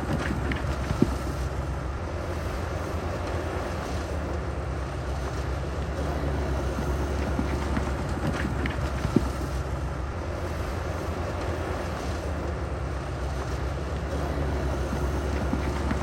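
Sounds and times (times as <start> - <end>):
diesel earthmoving equipment engine drone: 0.0 - 16.0.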